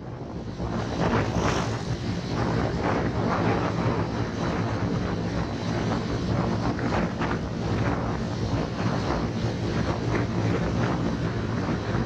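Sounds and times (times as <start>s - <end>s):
wind rush on microphone: 0.0s - 12.0s.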